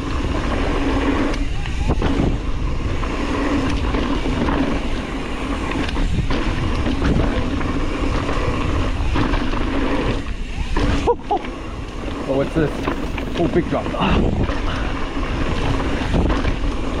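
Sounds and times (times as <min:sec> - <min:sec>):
bike rattling clicks and knocks: 0:00.0 - 0:17.0
wind rushing over microphone: 0:00.0 - 0:17.0
tyres on dirt and rocks: 0:00.1 - 0:17.0.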